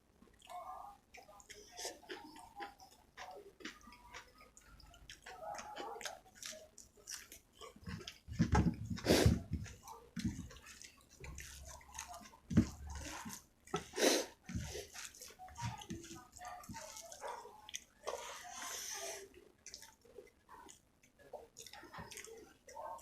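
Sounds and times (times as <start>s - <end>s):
wet chewing and smacking: 0.2s - 23.0s.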